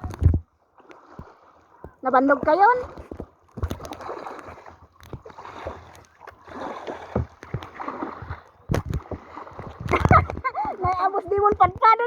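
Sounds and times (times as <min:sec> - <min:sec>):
kayak paddles splashing in water: 0:00.0 - 0:12.0.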